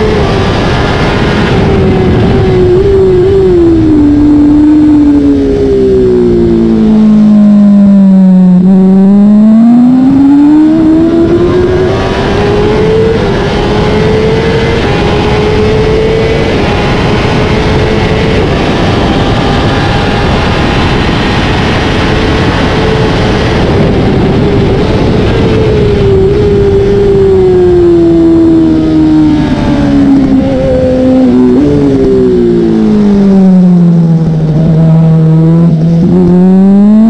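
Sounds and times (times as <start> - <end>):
wind rush on microphone: 0.0 - 9.2, 9.8 - 37.0
motorcycle engine accelerating: 0.0 - 37.0.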